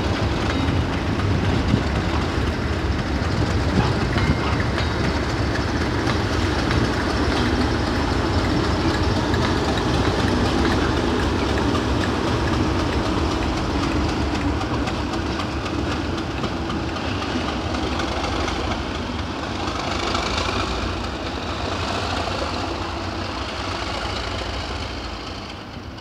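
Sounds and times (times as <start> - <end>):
diesel locomotive engine: 0.0 - 26.0.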